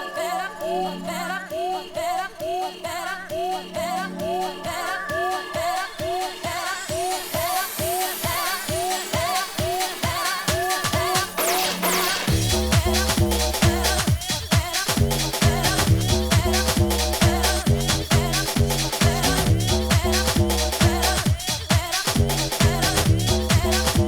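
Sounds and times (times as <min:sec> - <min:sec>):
speed garage dance music: 0:00.0 - 0:24.0.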